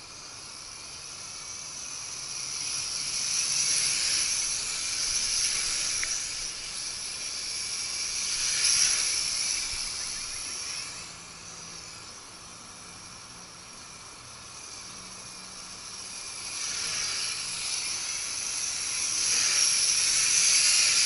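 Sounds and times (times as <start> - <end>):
quadcopter propellers whining: 0.0 - 21.0.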